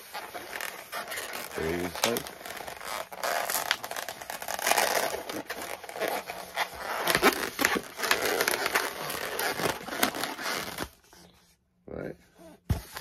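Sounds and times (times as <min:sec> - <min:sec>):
balloon rubbing and crackling: 0:00.0 - 0:11.2.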